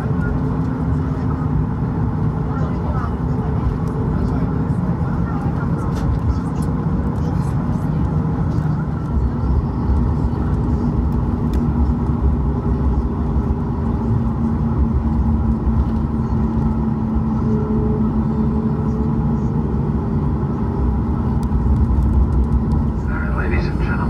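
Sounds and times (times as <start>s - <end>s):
airplane cabin low rumble: 0.0s - 24.0s
engine hum: 0.0s - 24.0s.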